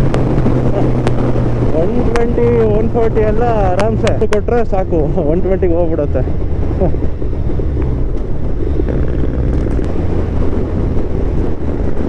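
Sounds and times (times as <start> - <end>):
motorcycle engine droning: 0.0 - 12.0
wind rush over microphone: 0.0 - 12.0.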